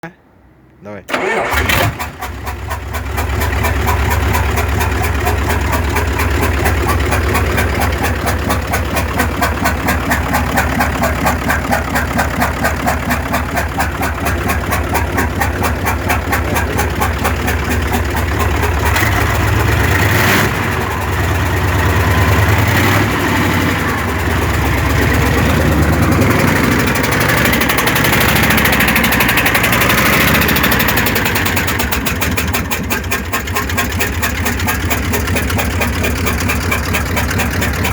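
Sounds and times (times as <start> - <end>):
car engine idling: 1.1 - 37.9.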